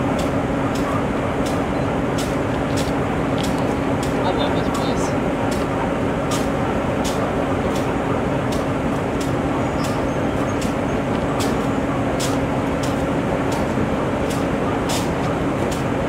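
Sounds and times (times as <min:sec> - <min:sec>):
diesel locomotive idling: 0:00.0 - 0:16.0
sharp irregular ticks: 0:00.0 - 0:16.0.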